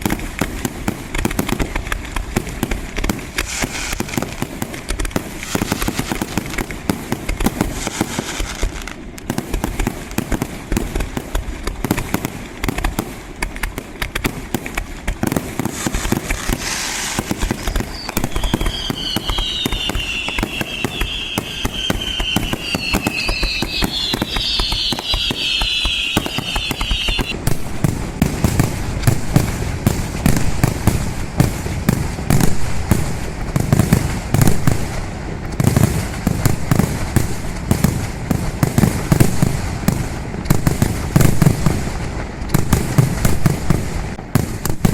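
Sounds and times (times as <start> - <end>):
fireworks crackling: 0.0 - 44.9
low firework bangs: 0.0 - 44.9
whistling fireworks: 0.0 - 44.9.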